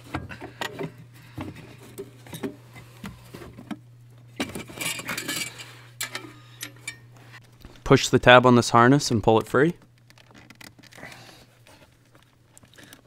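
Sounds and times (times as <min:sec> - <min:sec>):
wiring rustling and scraping: 0:00.0 - 0:07.9, 0:09.3 - 0:13.0
steady low hum: 0:00.0 - 0:13.0.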